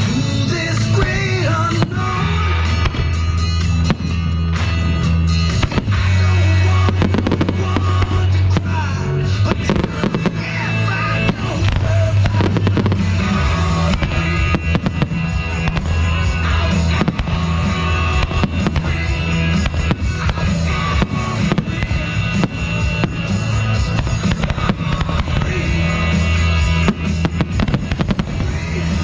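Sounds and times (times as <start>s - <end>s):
fireworks bursting and crackling: 0.0s - 29.0s
loud music with heavy bass: 0.0s - 29.0s.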